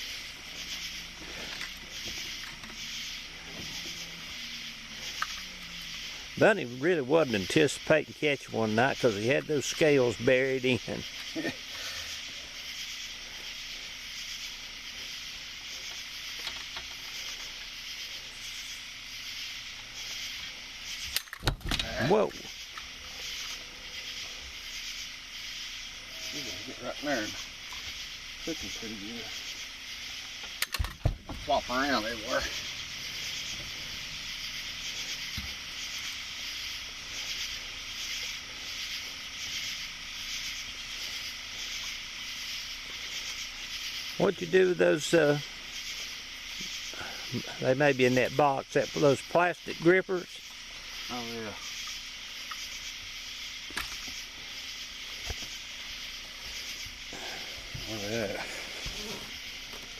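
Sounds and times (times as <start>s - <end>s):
faint steady hum: 0.0s - 59.9s
night insects chorus: 0.0s - 59.9s.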